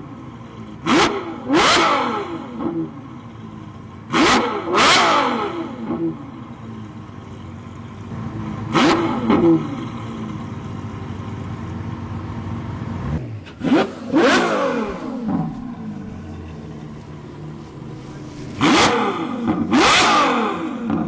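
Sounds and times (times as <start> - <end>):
car engine blipping: 0.0 - 21.0
car engine running steadily: 0.0 - 21.0.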